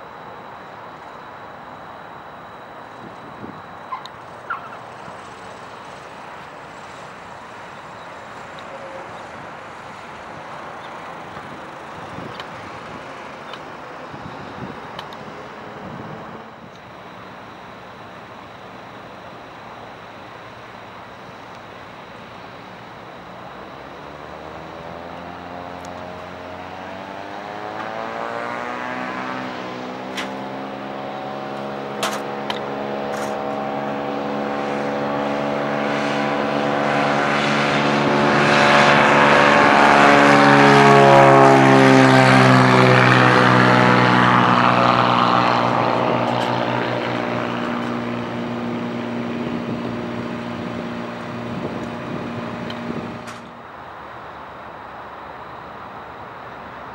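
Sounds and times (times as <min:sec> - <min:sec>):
propeller airplane passing by: 0:00.0 - 0:54.0.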